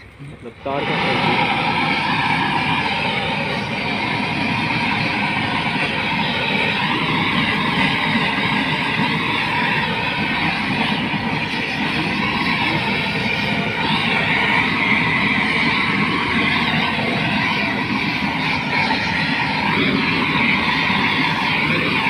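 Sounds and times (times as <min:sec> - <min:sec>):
blowtorch flame roaring: 0:00.0 - 0:22.0.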